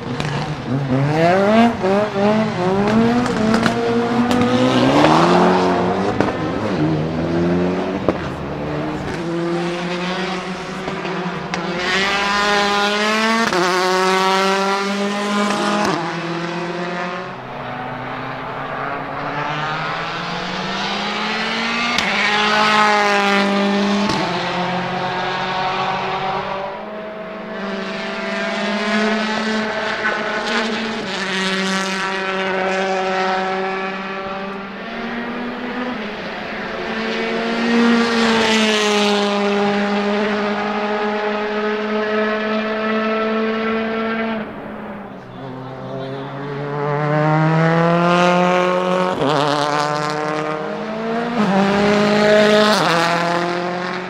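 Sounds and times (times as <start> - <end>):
rally car engines accelerating: 0.0 - 54.0.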